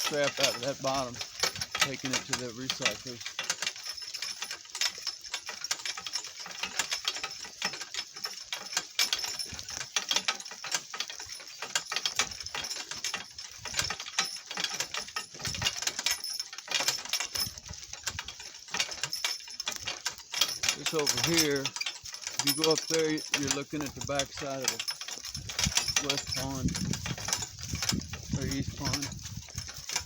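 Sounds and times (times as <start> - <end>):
cart rattling over rough ground: 0.0 - 30.0.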